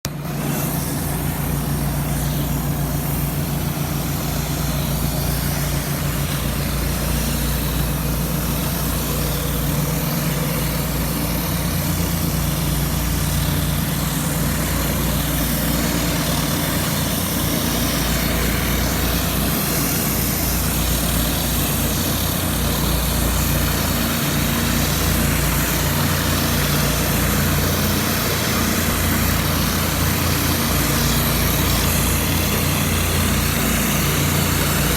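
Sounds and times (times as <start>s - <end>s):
pressure washer engine running: 0.0s - 34.9s.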